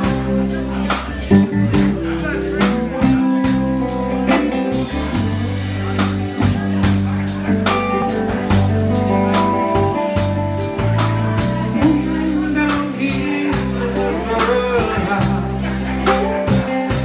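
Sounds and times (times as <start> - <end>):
drum kit beat: 0.0 - 17.0
electric bass: 0.0 - 17.0
electric guitar lead: 0.0 - 17.0.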